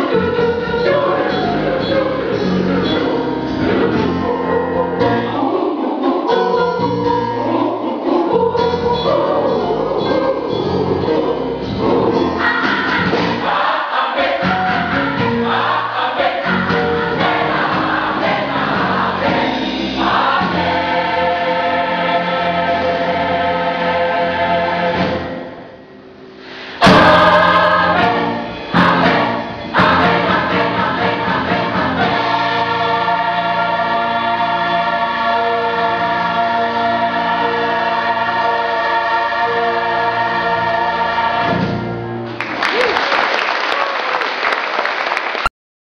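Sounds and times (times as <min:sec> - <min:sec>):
gospel choir singing in harmony: 0:00.0 - 0:42.3.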